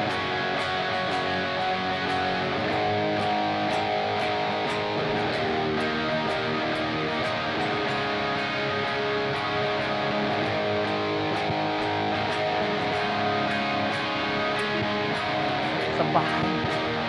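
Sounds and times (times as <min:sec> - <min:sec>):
guitar strumming chords: 0:00.0 - 0:17.0.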